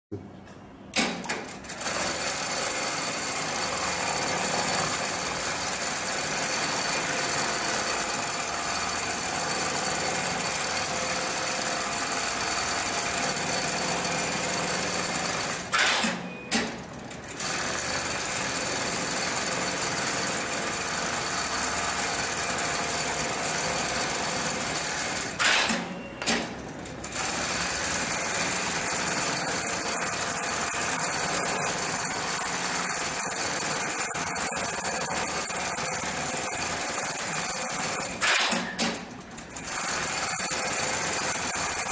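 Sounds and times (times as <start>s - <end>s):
sewing machine sharp clack: 0.9s - 41.9s
sewing machine running: 1.3s - 41.9s.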